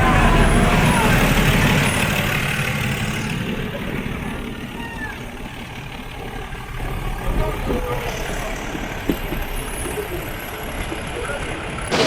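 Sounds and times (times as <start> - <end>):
train rumble and rattle: 0.0 - 12.0.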